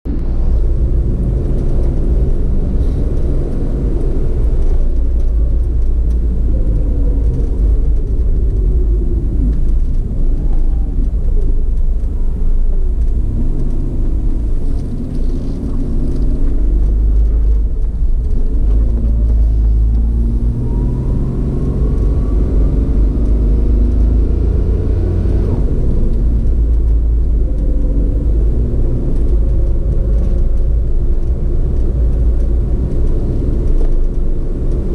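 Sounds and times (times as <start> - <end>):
heavy low rumble: 0.0 - 34.9
vehicle engine revving: 0.1 - 34.9.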